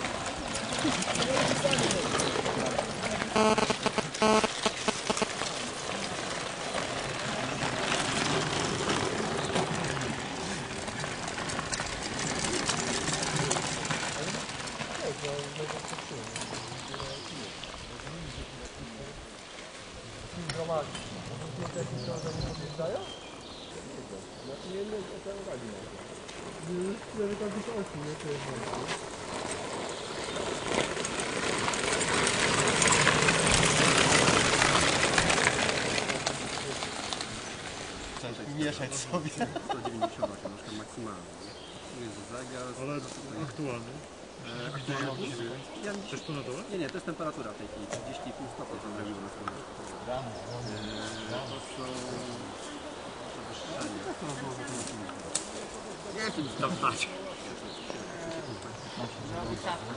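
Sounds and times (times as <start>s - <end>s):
bicycle tyres rattling on cobbles: 0.0s - 59.9s.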